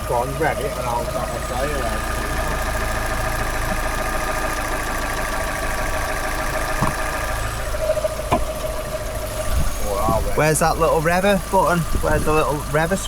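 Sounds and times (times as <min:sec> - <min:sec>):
car engine idling: 0:00.0 - 0:13.0
high-pitched engine whine: 0:00.0 - 0:13.0.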